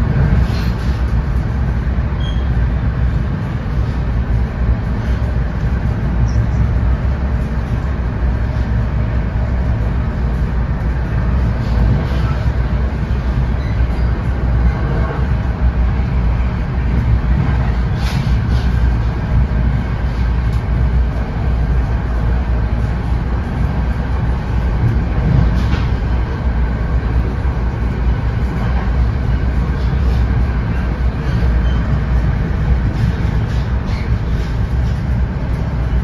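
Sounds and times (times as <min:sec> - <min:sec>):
train coach rumble and rail noise: 0:00.0 - 0:36.0.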